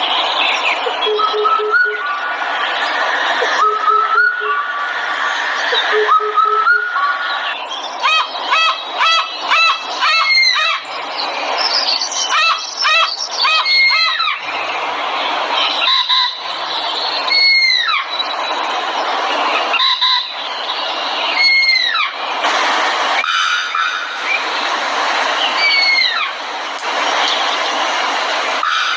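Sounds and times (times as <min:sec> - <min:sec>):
bird calls: 0:00.0 - 0:18.8, 0:19.5 - 0:22.2, 0:23.2 - 0:27.8
steady hiss: 0:02.1 - 0:03.6, 0:04.6 - 0:06.0, 0:07.0 - 0:28.9.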